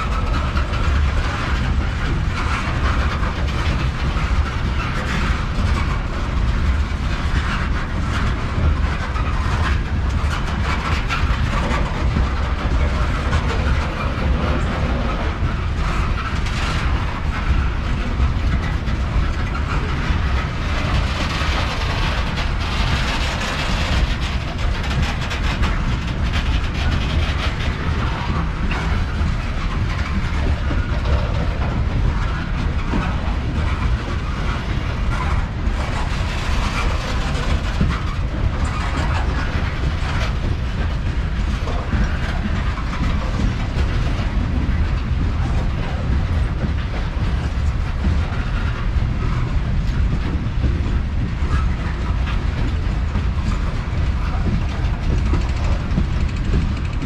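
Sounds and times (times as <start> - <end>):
freight train rumbling past: 0.0 - 57.0
wheels clicking over rail joints: 0.0 - 57.0.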